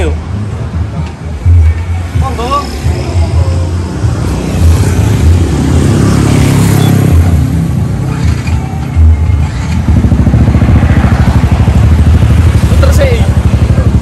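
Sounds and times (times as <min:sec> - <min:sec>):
motorcycle engine revving: 0:02.3 - 0:14.0.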